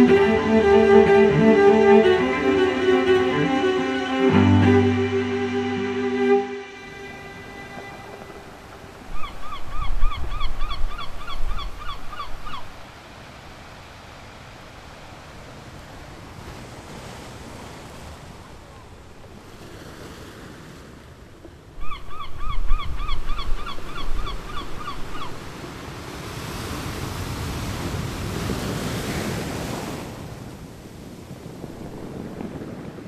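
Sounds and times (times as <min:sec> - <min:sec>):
ocean waves washing: 0:00.0 - 0:11.2, 0:12.7 - 0:33.0.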